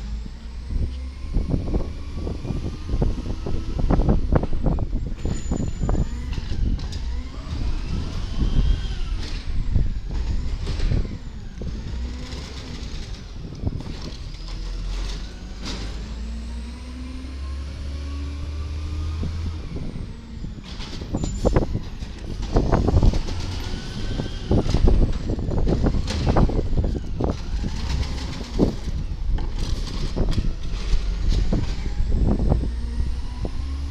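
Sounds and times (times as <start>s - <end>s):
truck diesel engine revving: 6.0s - 33.9s.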